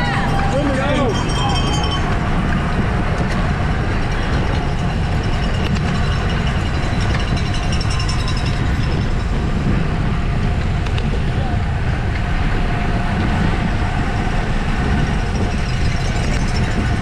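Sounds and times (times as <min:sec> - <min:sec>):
road rumble: 0:00.0 - 0:17.0
wind rush on microphone: 0:00.0 - 0:17.0.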